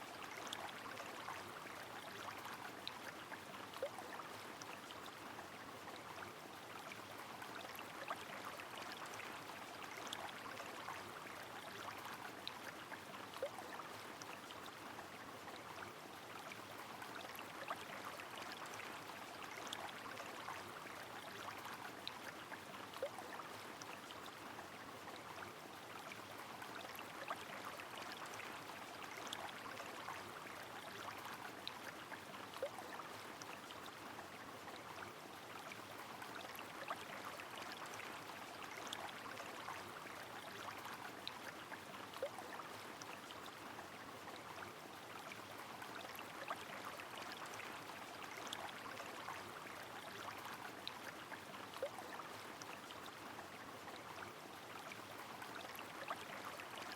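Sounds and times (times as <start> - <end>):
running river water: 0.0 - 56.9.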